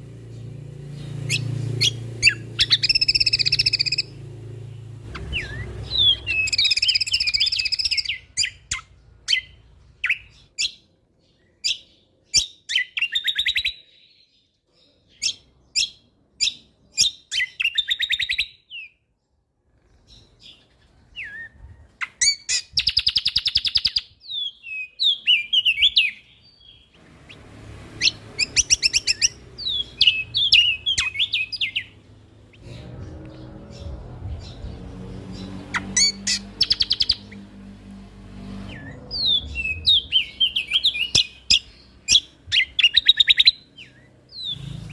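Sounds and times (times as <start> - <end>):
bird singing trills and chips: 0.2 - 4.3, 5.1 - 19.1, 19.7 - 37.6, 38.6 - 44.9.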